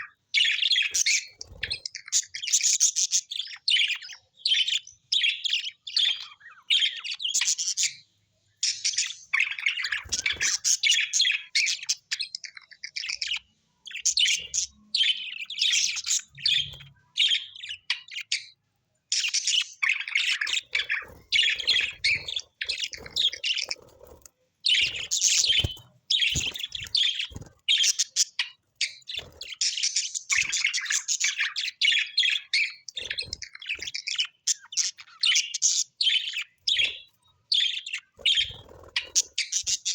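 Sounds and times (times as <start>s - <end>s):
parrots chirping and chattering: 0.0s - 39.9s.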